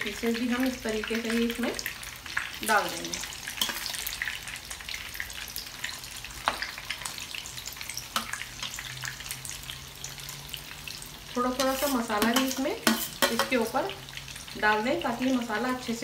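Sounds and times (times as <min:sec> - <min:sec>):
hot oil sizzling and crackling: 0:00.0 - 0:16.0.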